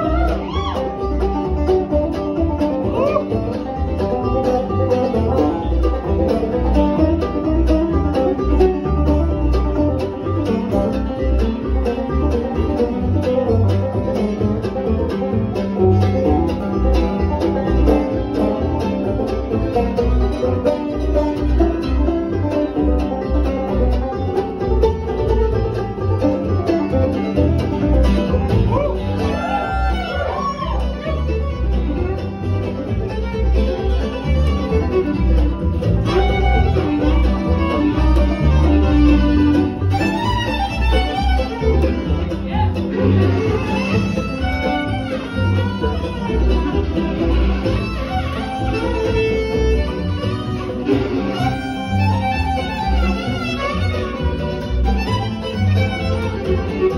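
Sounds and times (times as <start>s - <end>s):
acoustic string band playing: 0.0s - 56.9s.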